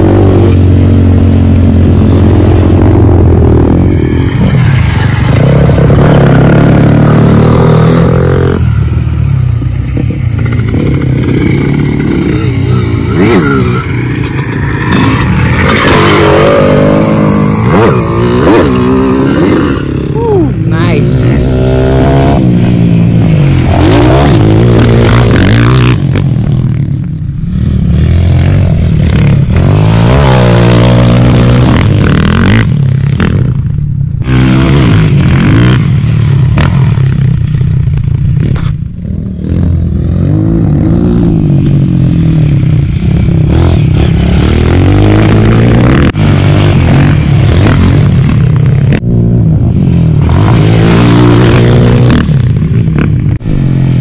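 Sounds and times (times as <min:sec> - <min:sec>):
dirt bike engine revving: 0:00.0 - 0:26.8, 0:27.4 - 0:33.6, 0:34.2 - 0:37.8, 0:38.4 - 0:54.0.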